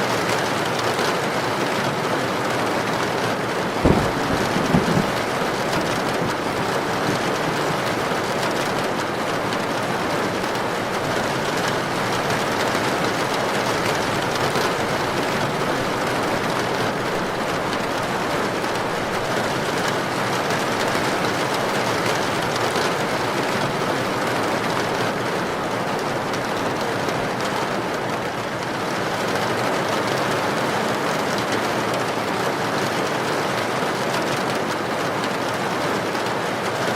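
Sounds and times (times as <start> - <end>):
heavy rain pouring: 0.0 - 36.9
wind: 0.0 - 36.9.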